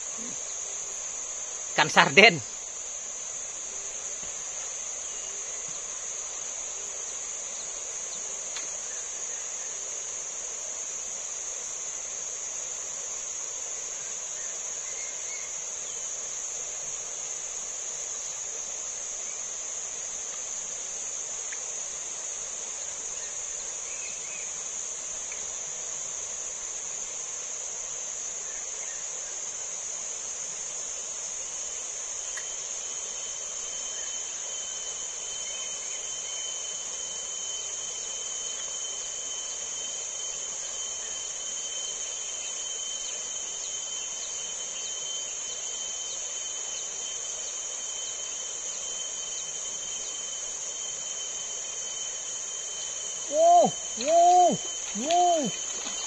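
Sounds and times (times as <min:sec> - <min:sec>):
high-pitched insect chorus: 0:00.0 - 0:56.0
lower insect tone: 0:00.0 - 0:56.0.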